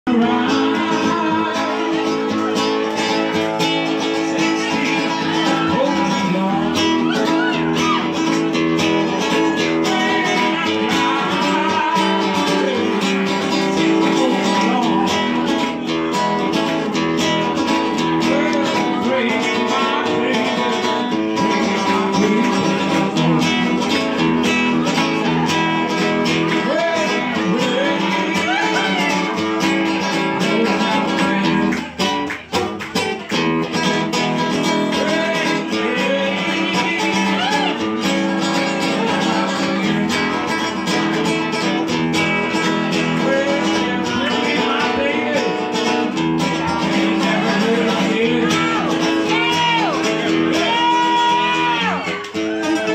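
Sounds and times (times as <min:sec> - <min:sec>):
acoustic guitar strummed and picked: 0:00.0 - 0:52.9.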